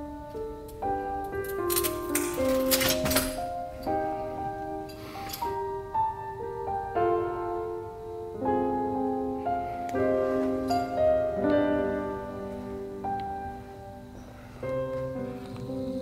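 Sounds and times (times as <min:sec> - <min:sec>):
slow sombre piano music: 0:00.0 - 0:16.0.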